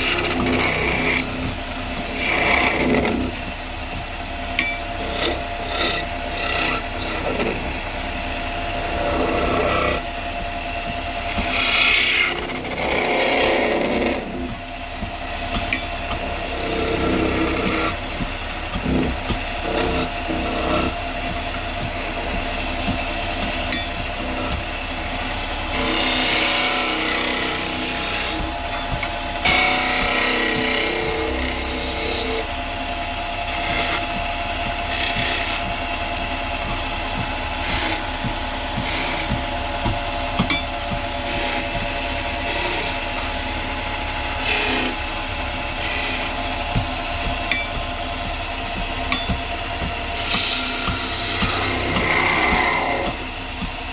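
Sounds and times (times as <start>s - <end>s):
tool scraping spinning wood: 0.0s - 53.9s
wood lathe motor whine: 0.0s - 53.9s.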